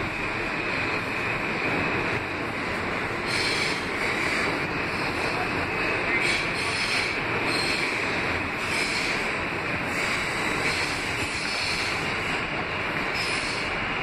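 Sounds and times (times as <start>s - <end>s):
subway car wheels on rails: 0.0s - 14.0s.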